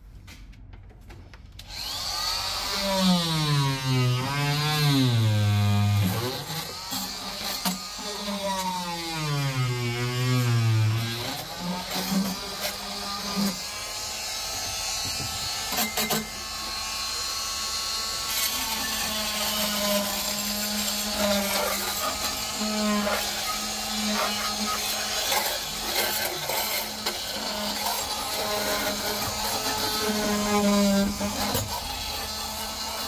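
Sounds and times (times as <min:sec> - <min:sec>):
oscillating tool scraping: 0:02.6 - 0:33.0.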